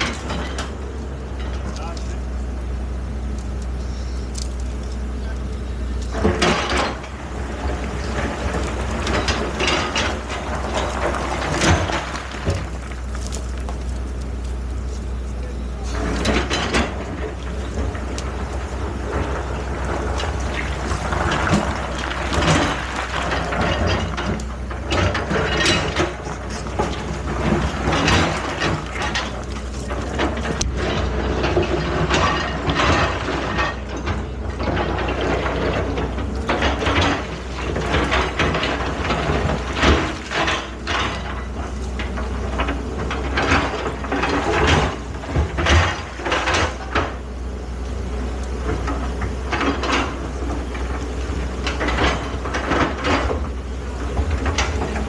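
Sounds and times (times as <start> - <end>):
metal clanks and knocks: 0.0 - 2.2, 6.0 - 14.6, 15.4 - 47.5, 48.2 - 55.0
excavator engine running: 0.0 - 55.0.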